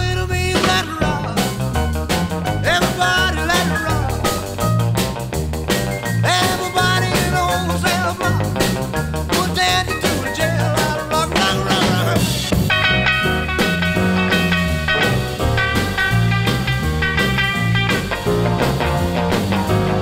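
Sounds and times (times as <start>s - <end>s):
bass line: 0.0s - 20.0s
steady drum beat: 0.0s - 20.0s.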